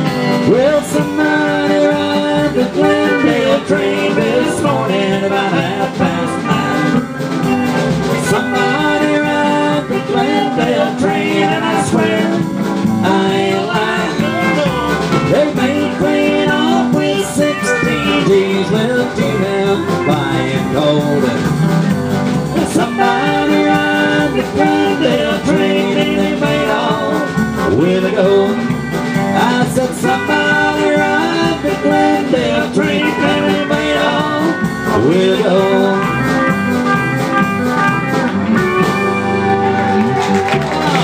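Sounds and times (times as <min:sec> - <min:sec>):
electric bass line: 0:00.0 - 0:41.0
electric guitars: 0:00.0 - 0:41.0.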